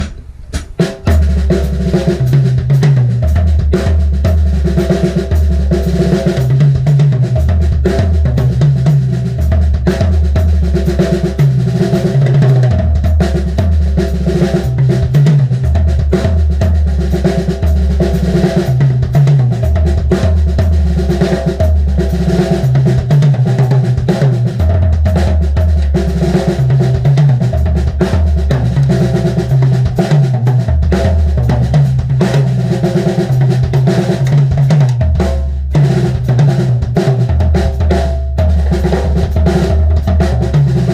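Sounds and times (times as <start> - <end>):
drum kit solo: 0.0 - 40.9.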